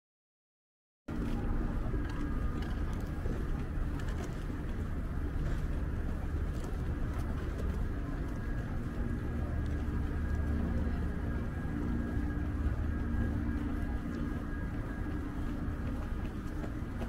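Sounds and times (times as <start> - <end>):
road traffic rumble: 1.1 - 17.0.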